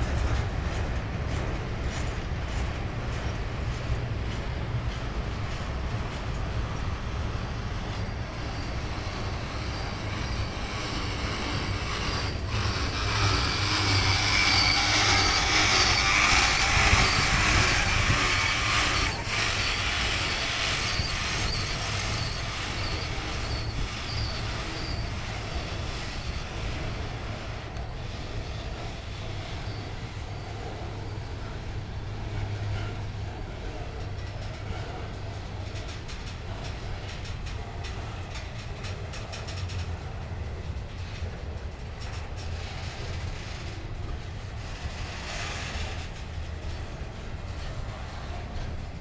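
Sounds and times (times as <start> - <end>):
train wheels rumbling over rails: 0.0 - 49.0
faint high wheel squeal: 5.8 - 49.0.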